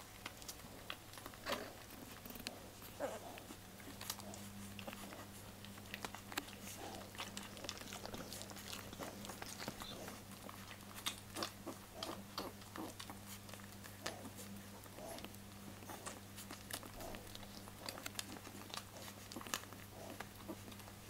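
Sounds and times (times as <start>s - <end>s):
puppies rustling on bedding: 0.0s - 21.0s
steady low hum: 0.0s - 21.0s.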